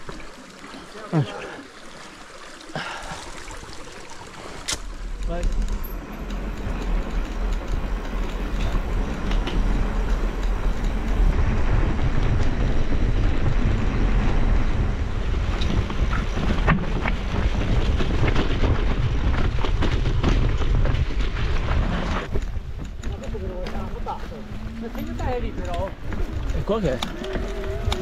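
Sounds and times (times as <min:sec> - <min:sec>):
bike rattles and clicks: 0:04.6 - 0:28.0
wind rumble on microphone: 0:04.9 - 0:28.0.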